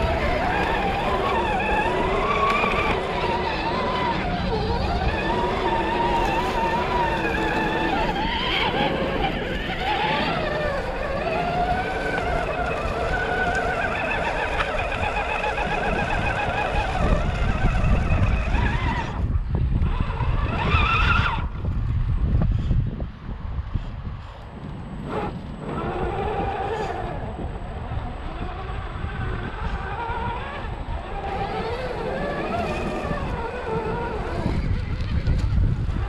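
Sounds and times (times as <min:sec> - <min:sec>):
electric motor and gear whine: 0:00.0 - 0:36.0.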